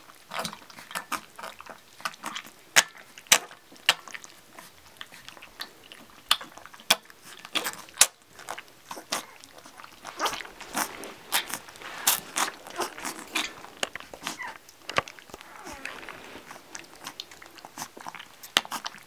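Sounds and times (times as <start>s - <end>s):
puppies lapping milk: 0.0s - 19.0s.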